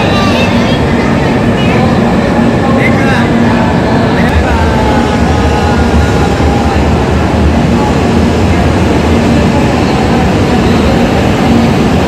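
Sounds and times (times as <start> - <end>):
rumble of moving train: 0.0 - 12.0.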